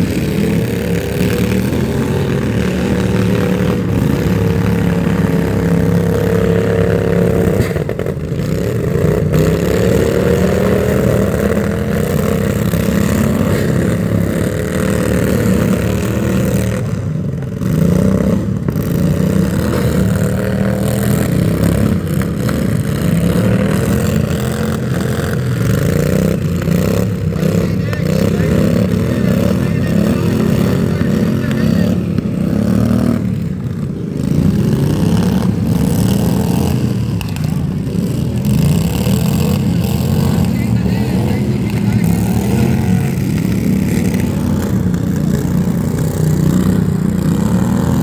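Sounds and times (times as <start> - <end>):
engine revving: 0.0 - 48.0.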